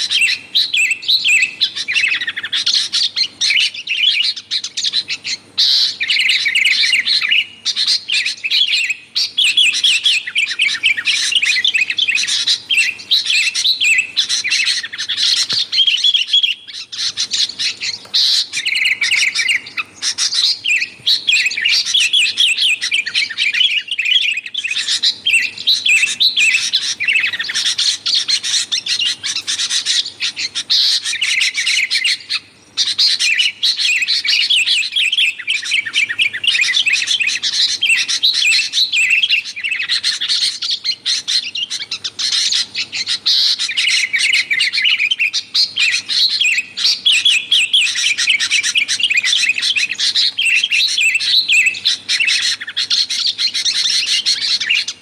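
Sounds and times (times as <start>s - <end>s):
bulbuls chattering chirps: 0.0s - 55.0s.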